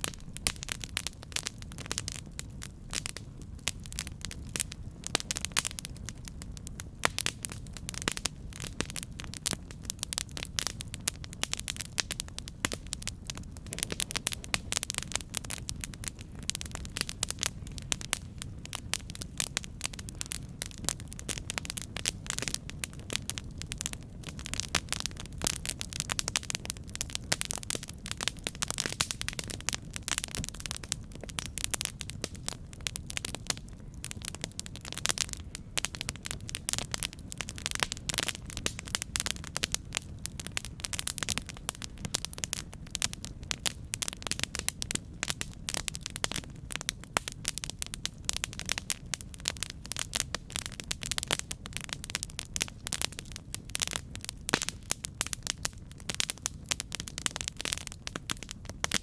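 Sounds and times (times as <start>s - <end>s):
low rumble of flame: 0.0s - 59.0s
wood crackling and popping: 0.0s - 59.0s.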